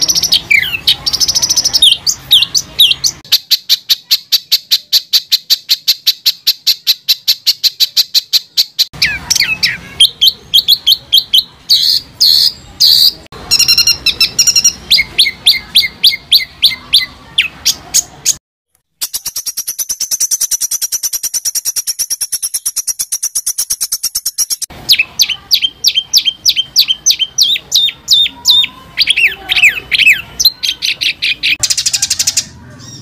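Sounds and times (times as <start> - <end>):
songbird fast repeated notes: 0.0 - 32.3.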